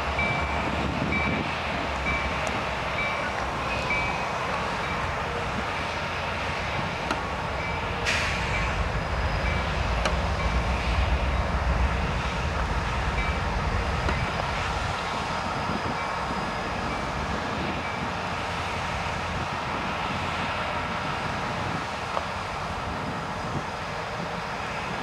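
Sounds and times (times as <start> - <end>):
freight train rumbling: 0.0 - 25.0.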